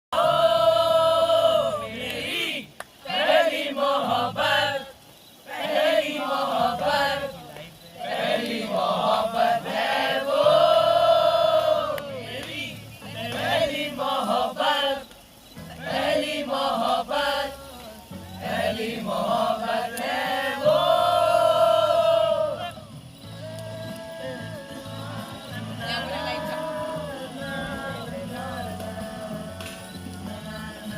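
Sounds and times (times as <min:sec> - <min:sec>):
voices singing a song: 0:00.2 - 0:30.9.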